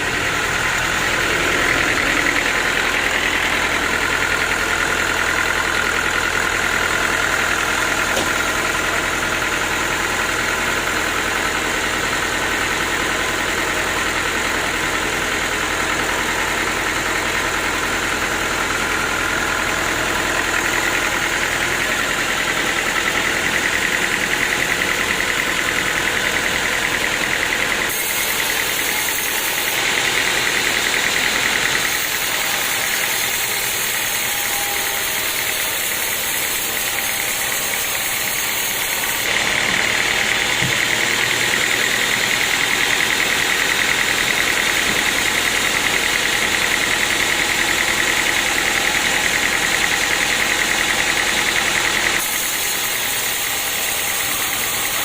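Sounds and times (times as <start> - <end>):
sawmill machine running: 0.0 - 55.0.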